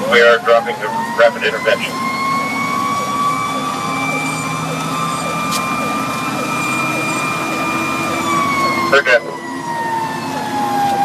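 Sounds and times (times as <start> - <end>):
fire engine siren wailing: 0.0 - 11.0
truck engine and road rumble: 0.0 - 11.0.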